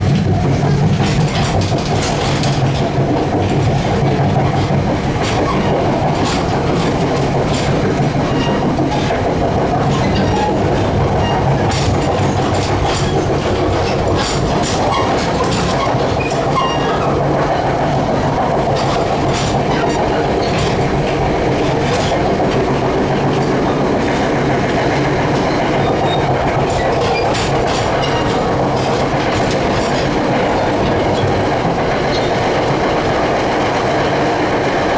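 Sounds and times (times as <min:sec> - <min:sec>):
train rumble: 0:00.0 - 0:34.9
wheels clicking over rail joints: 0:00.0 - 0:34.9.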